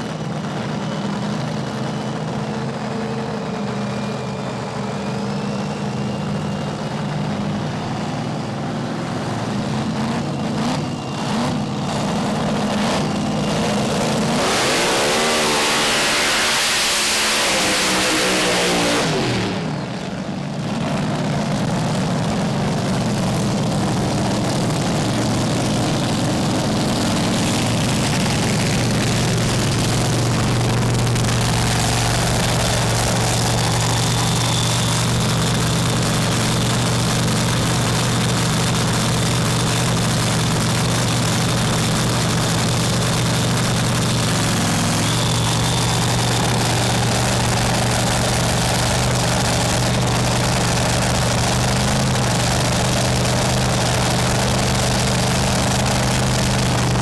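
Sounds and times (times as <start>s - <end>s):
dragster engine idling: 0.0s - 57.0s.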